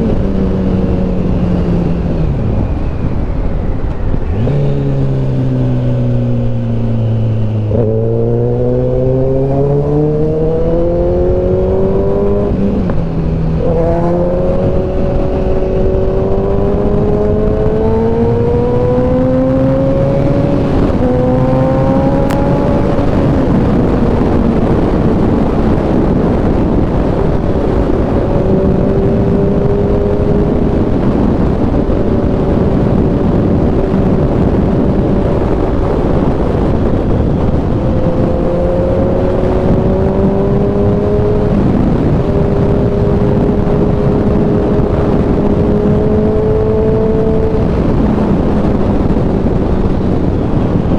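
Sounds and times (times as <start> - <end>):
motorcycle engine shifting gears: 0.0 - 50.9
wind rush: 0.0 - 50.9.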